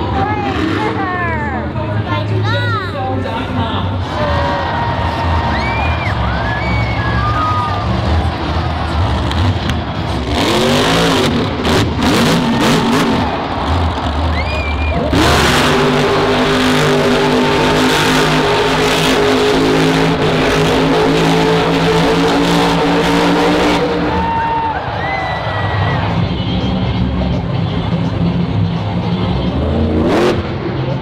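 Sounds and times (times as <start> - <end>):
truck engine revving: 0.0 - 2.4, 3.0 - 31.0.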